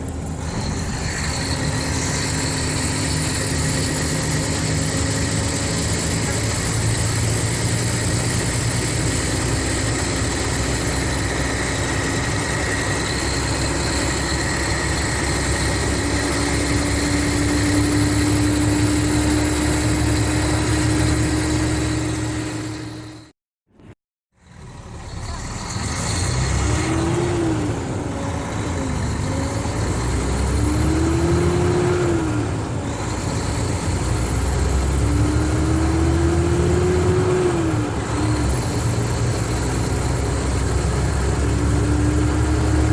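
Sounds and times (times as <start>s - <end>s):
diesel bus engine running: 0.0s - 42.9s.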